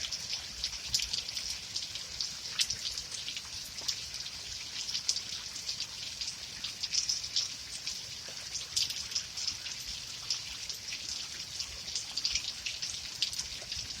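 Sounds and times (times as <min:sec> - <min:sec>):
rain falling: 0:00.0 - 0:14.0
raindrops pattering on a surface: 0:00.0 - 0:14.0.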